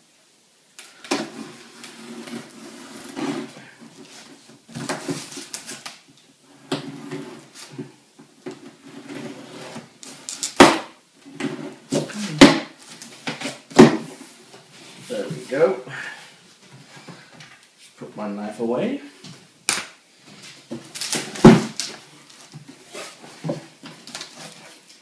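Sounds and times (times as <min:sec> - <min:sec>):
tape and cardboard rustling: 0:00.8 - 0:15.6, 0:19.7 - 0:25.0.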